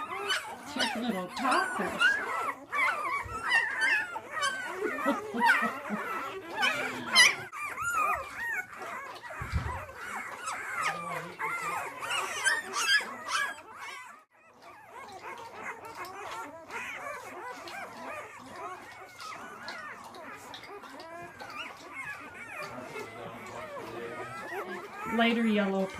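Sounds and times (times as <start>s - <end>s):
puppies whining and squealing: 0.0s - 25.9s.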